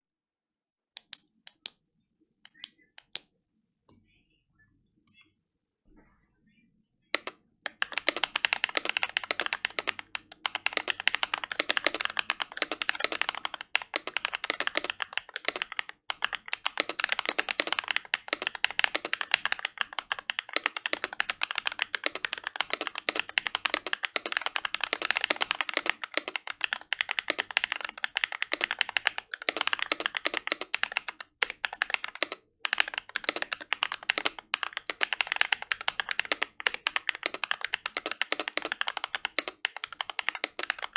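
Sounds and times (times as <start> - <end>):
mechanical keyboard typing: 7.2 - 40.9.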